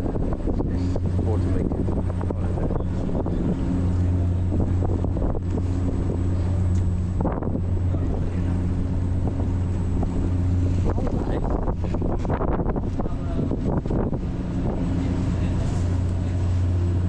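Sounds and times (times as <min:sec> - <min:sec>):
ferry engine drone: 0:00.0 - 0:17.0
wind buffeting microphone: 0:00.0 - 0:17.0.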